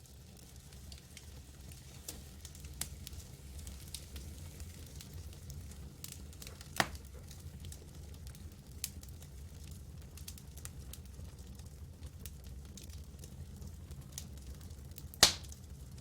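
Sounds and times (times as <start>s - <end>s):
campfire crackling and popping: 0.0s - 16.0s
low rumble of burning fire: 0.0s - 16.0s.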